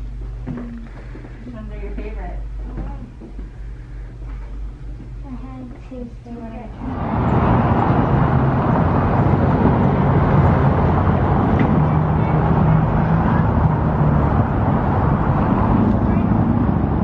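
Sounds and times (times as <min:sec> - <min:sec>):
faint engine-like hum: 0:00.0 - 0:17.0
traffic rumble: 0:00.0 - 0:17.0.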